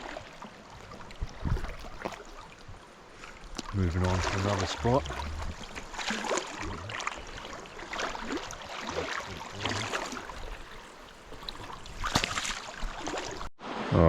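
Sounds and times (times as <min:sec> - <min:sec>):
river water running: 0:00.0 - 0:13.8
water splashes: 0:00.0 - 0:14.0.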